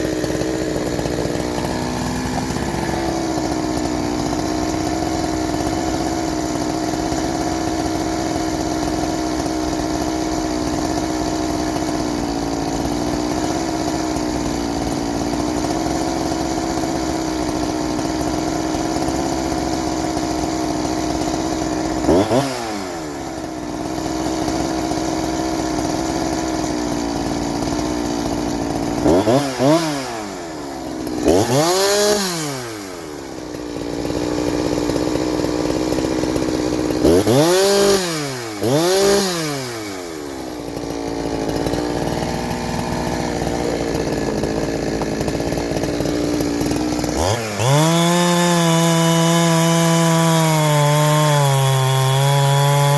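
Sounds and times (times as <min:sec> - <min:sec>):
chainsaw cutting at high revs: 0:00.0 - 0:52.9.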